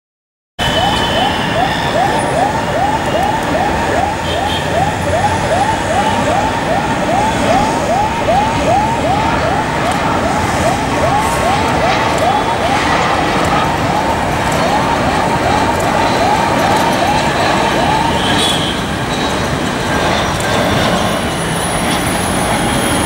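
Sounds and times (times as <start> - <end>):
broad background noise: 0.6 - 23.0
emergency siren yelping: 0.6 - 23.0.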